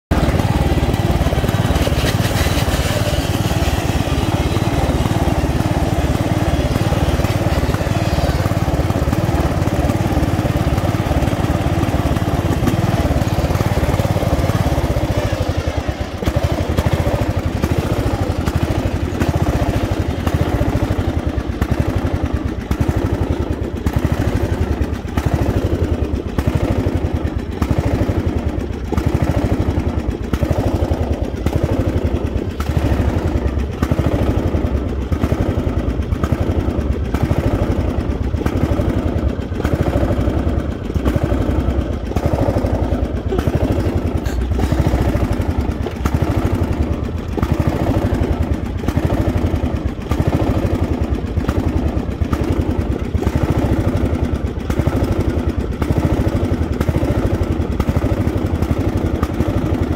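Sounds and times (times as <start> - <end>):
lawnmower engine running: 0.0 - 59.9.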